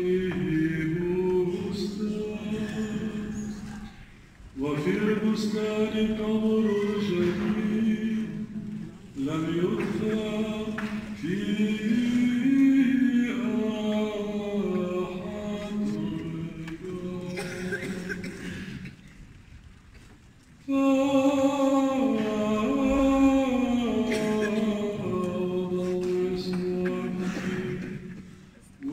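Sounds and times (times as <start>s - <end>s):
voices singing chant: 0.0s - 18.8s, 20.7s - 28.9s.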